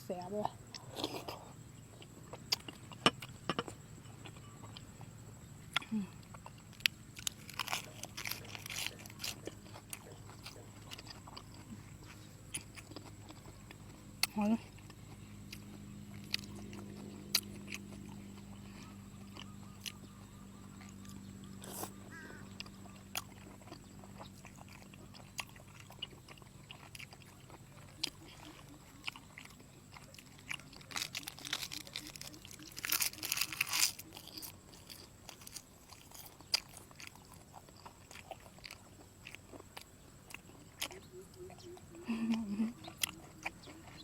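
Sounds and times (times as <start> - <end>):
person chewing and crunching: 0.4 - 44.0.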